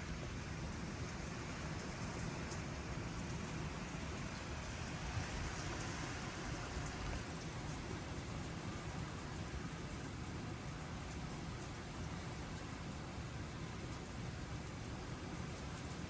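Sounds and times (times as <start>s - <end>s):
heavy rain downpour: 0.0s - 16.0s.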